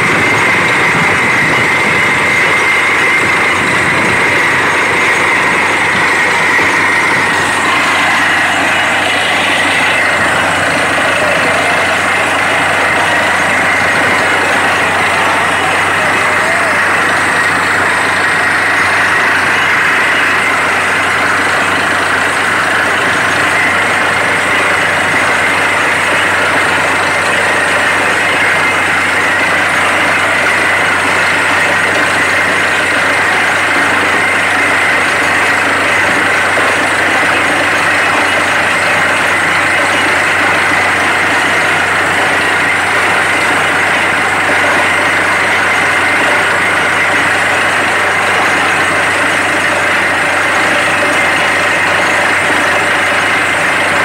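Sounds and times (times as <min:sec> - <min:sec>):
drilling rig running loudly: 0:00.0 - 0:54.0.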